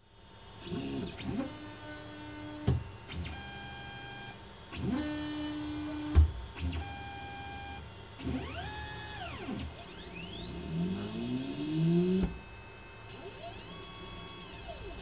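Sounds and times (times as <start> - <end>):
stepper motors whining: 0.6 - 15.0.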